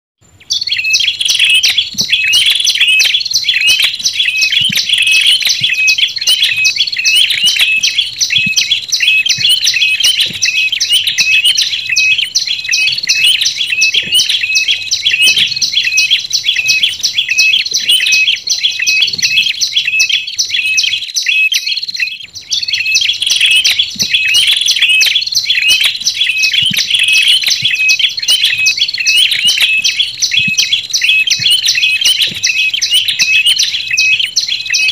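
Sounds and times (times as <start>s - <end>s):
high sharp bird chirping: 0.2s - 34.9s.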